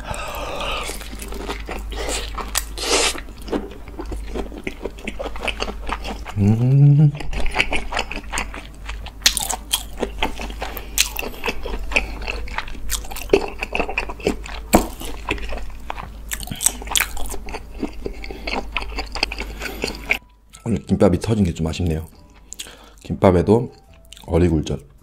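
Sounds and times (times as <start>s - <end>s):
chewing and crunching food: 0.6s - 21.0s, 21.6s - 24.9s.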